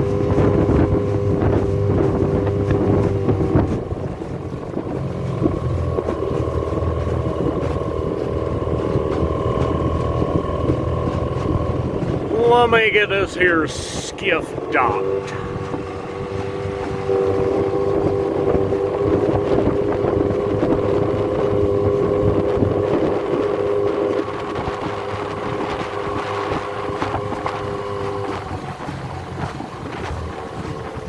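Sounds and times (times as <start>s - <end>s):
outboard motor humming: 0.0s - 31.0s
water noise: 0.0s - 31.0s
wind: 0.0s - 31.0s.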